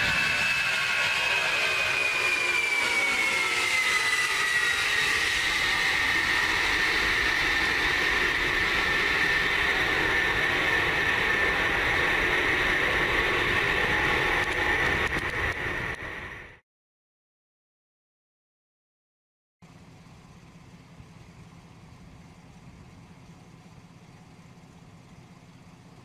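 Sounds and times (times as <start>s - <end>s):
jet engines roaring at takeoff: 0.0s - 16.6s, 19.7s - 26.0s.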